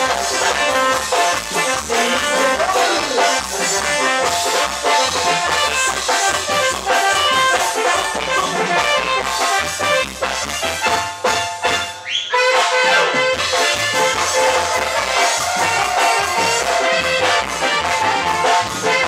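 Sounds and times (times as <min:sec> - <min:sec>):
dance music with brass and drums: 0:00.0 - 0:19.0.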